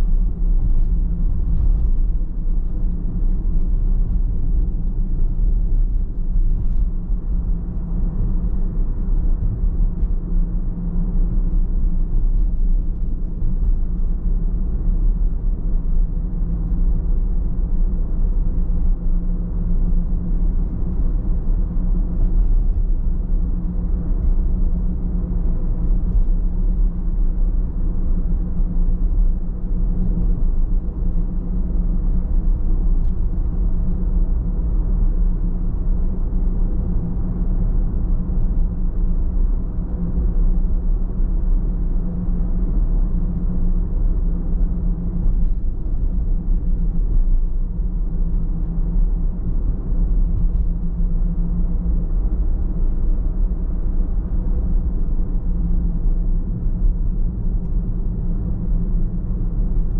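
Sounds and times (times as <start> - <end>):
car driving road noise: 0.0 - 59.9.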